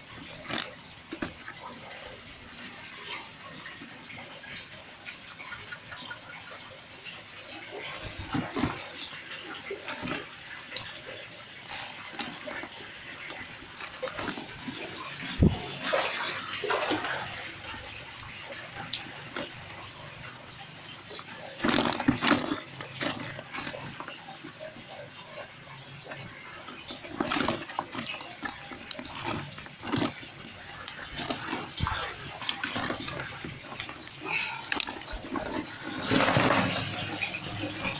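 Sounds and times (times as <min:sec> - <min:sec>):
fish flapping and splashing: 0:00.0 - 0:37.9.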